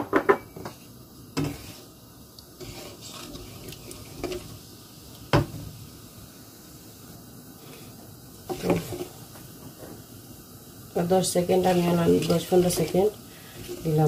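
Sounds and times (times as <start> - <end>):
seeds sizzling in oil: 0.5 - 14.0.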